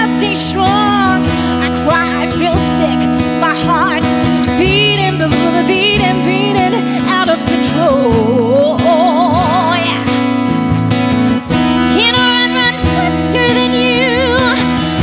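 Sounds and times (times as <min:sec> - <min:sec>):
woman singing ballad: 0:00.0 - 0:10.5, 0:11.8 - 0:15.0
acoustic guitar: 0:00.0 - 0:15.0.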